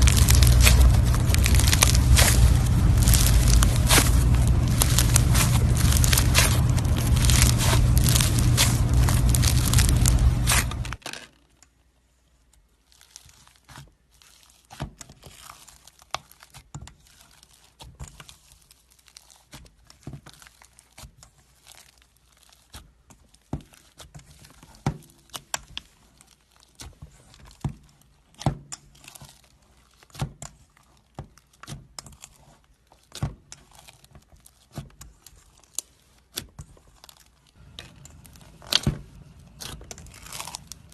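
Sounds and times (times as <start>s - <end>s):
slime crackling and crinkling: 0.0s - 11.0s, 12.0s - 40.9s.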